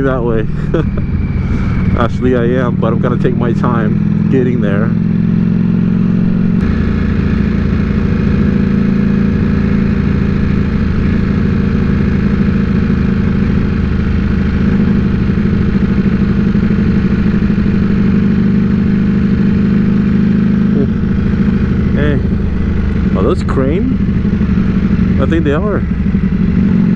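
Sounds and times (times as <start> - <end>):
low rumble: 0.0 - 26.9
motorcycle engine running: 0.0 - 26.9.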